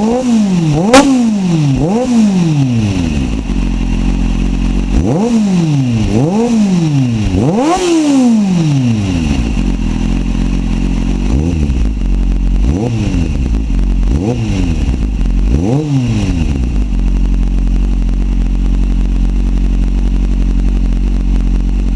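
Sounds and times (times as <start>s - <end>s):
motorcycle engine idling: 0.0s - 21.9s
motorcycle engine revving: 0.0s - 21.9s.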